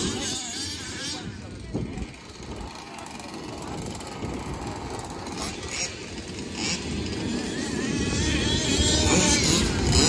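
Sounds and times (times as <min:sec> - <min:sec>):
small two-stroke engine revving: 0:00.0 - 0:10.0.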